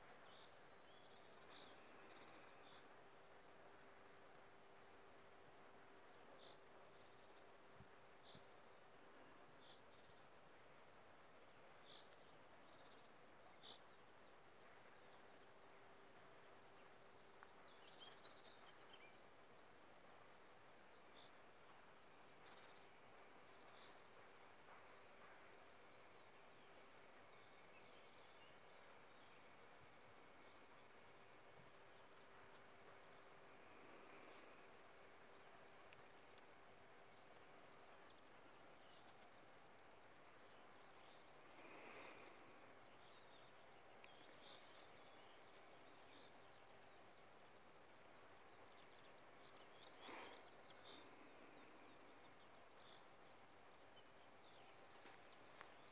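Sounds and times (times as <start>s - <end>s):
faint steady hum: 0.0s - 55.9s
low hiss: 0.0s - 55.9s
small birds chirping: 0.0s - 55.9s.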